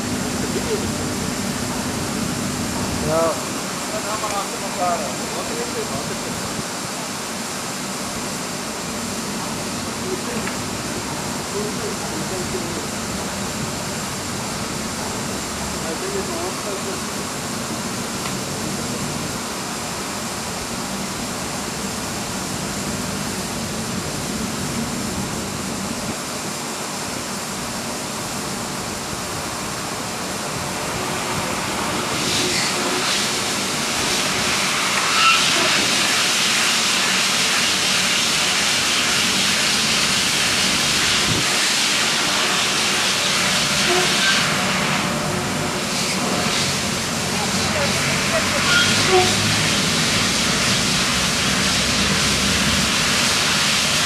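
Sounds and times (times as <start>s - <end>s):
washing machine hum: 0.0s - 54.0s.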